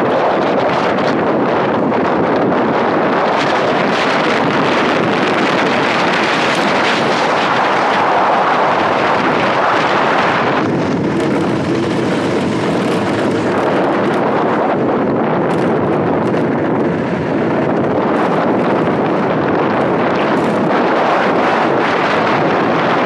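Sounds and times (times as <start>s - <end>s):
tyre noise on asphalt: 0.0s - 23.0s
wind rushing over microphone: 0.0s - 23.0s.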